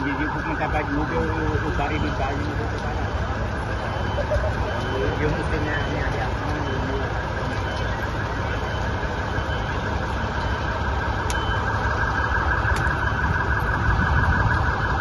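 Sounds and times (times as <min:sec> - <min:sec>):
emergency siren: 0:00.0 - 0:15.0
street noise: 0:00.0 - 0:15.0.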